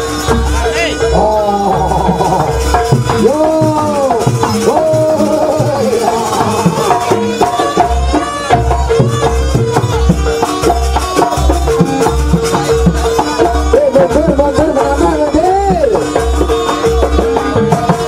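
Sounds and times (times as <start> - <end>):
hand drums: 0.0 - 18.0
low drum beat: 0.0 - 18.0.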